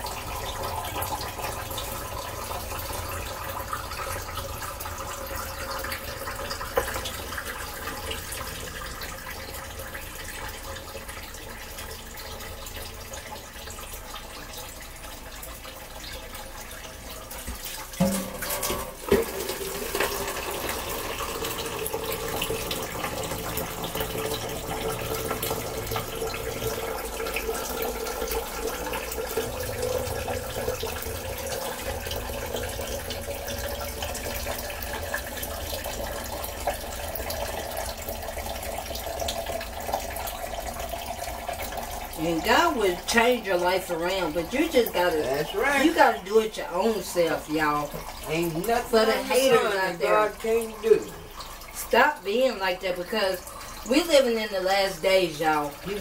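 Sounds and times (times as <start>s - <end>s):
water splashing into metal sink: 0.0s - 56.0s.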